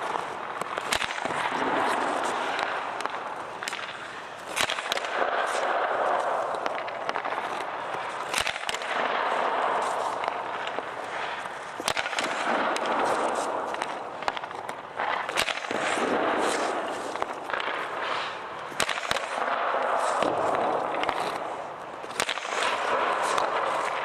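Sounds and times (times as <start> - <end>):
ice skates scraping on ice: 0.0 - 24.0
pucks hitting pads and boards: 0.0 - 24.0
sticks striking pucks: 0.0 - 24.0.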